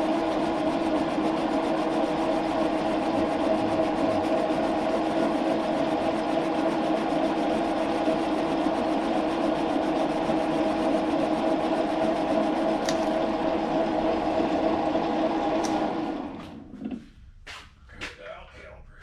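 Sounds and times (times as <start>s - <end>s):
metal lathe humming: 0.0s - 16.4s.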